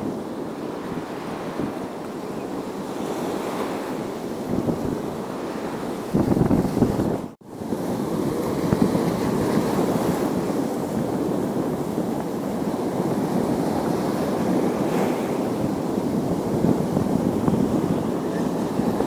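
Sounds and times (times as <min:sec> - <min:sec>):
surf washing against rocks: 0:00.0 - 0:19.0
wind rumbling on microphone: 0:00.0 - 0:19.0.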